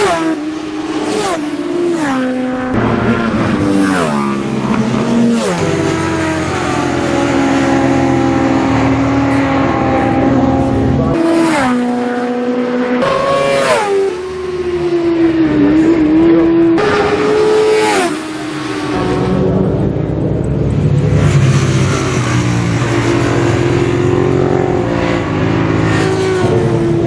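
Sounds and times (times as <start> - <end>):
motorcycle engines revving high: 0.0 - 27.0.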